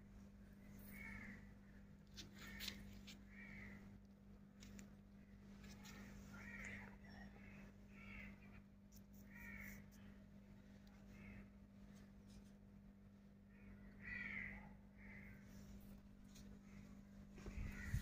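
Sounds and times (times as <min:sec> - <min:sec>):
low steady hum: 0:00.0 - 0:18.0
faint bird calls: 0:00.6 - 0:04.0, 0:05.3 - 0:12.4, 0:13.4 - 0:18.0.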